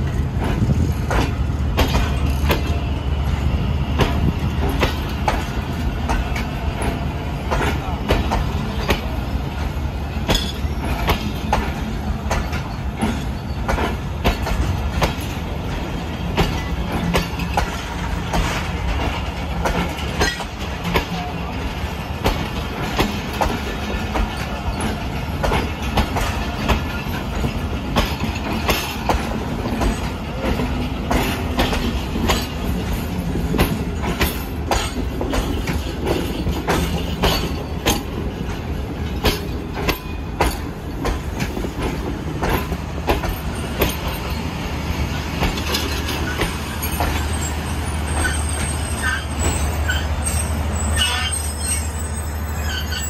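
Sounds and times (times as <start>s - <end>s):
wheels clicking over rail joints: 0.0s - 3.4s, 4.0s - 53.0s
train rumbling along track: 0.0s - 53.0s.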